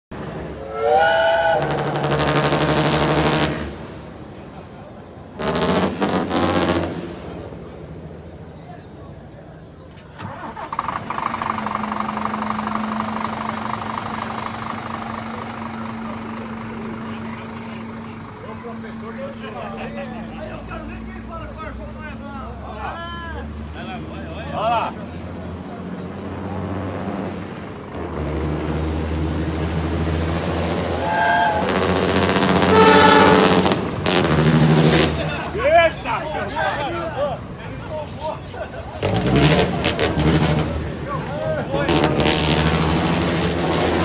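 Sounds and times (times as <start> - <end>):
truck diesel engine running hard: 0.1 - 8.5, 10.1 - 44.0.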